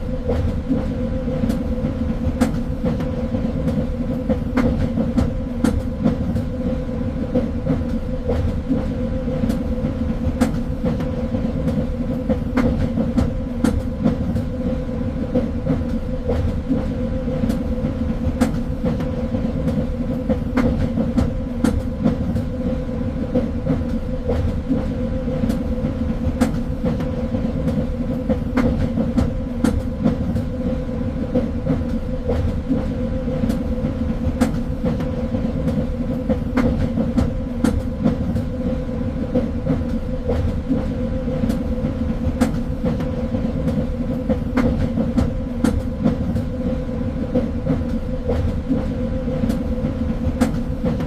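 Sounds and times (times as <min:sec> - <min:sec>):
train rumbling on rails: 0:00.0 - 0:51.0.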